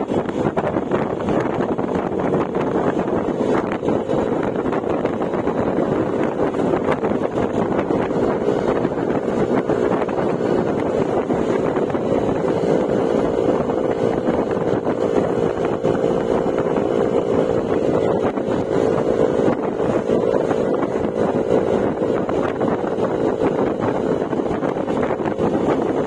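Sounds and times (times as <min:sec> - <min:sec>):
scooter engine cruising: 0:00.0 - 0:26.0
wind buffeting microphone: 0:00.0 - 0:26.0.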